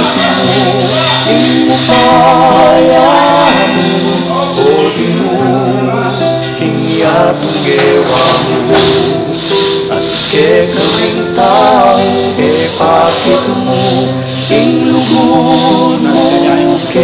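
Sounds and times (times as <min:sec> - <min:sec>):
song with vibrato voice: 0:00.0 - 0:17.0.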